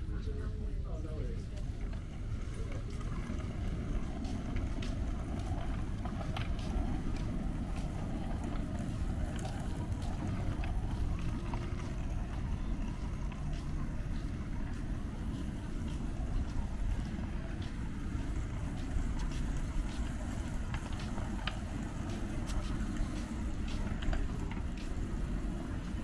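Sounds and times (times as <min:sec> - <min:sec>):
faint distant voices: 0:00.0 - 0:26.0
steady low rumble: 0:00.0 - 0:26.0.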